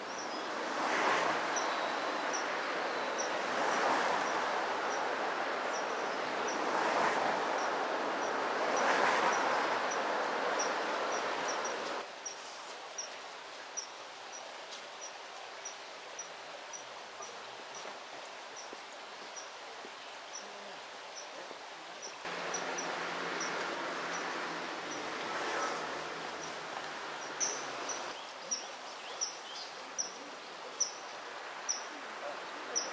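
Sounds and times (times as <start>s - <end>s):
stream water running: 0.0s - 32.9s.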